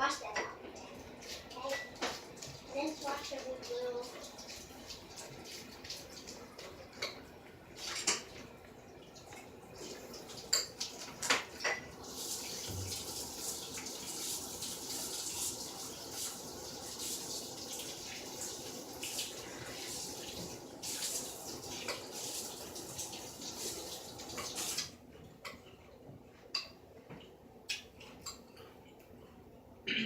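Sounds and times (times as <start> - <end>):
tap running water: 0.0 - 25.6.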